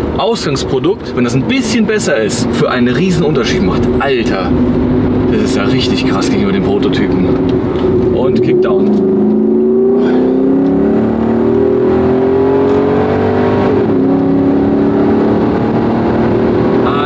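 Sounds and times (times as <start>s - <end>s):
car engine accelerating hard: 1.4s - 17.0s.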